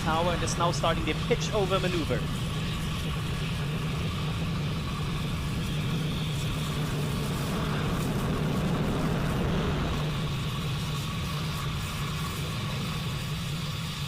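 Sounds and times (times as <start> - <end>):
rocket engines rumbling: 0.0 - 14.0.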